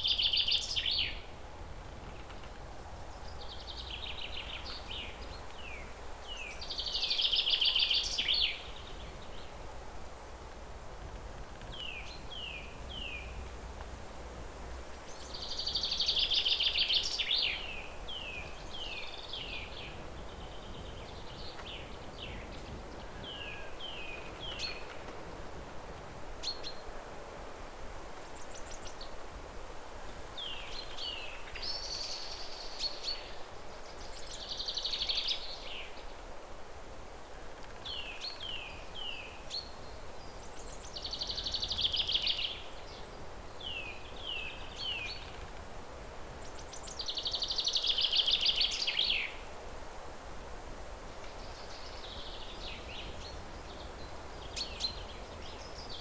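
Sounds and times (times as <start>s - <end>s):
low background noise: 0.0s - 56.0s
songbirds chirping: 0.0s - 56.0s.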